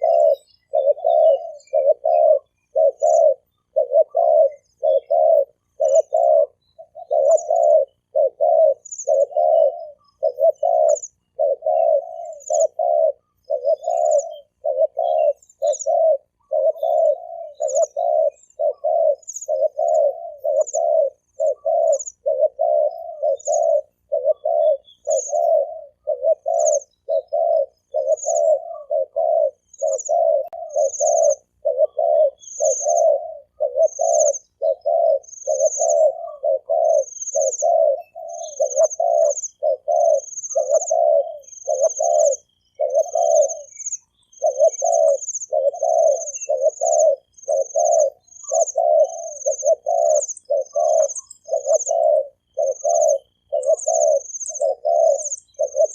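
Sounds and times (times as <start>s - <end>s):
dove bow-cooing: 0.0s - 55.9s
small bird high chirps: 0.0s - 55.9s.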